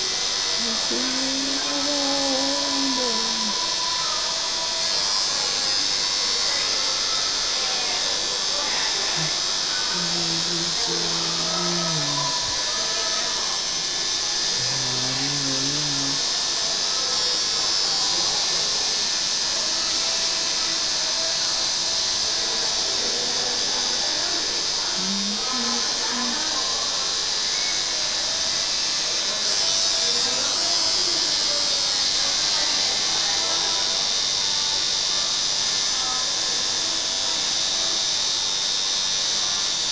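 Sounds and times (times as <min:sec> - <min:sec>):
tattoo machine buzzing: 0:00.0 - 0:39.9.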